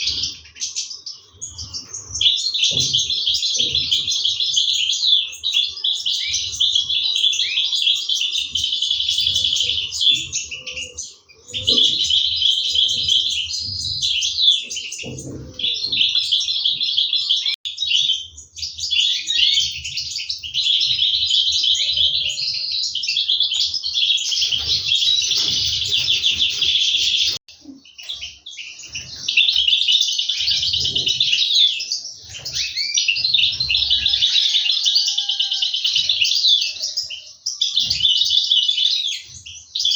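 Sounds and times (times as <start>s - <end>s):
finch chicks twittering: 0.0s - 39.9s.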